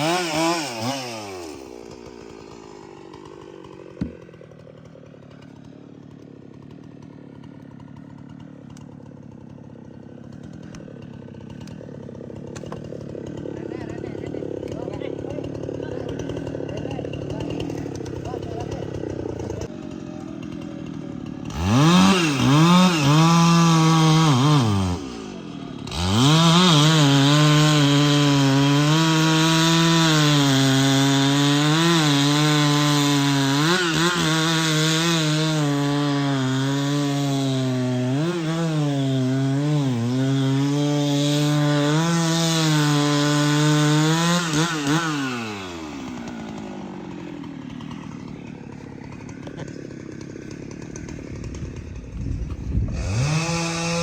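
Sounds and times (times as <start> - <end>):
chainsaw cutting through tree: 0.0 - 54.0.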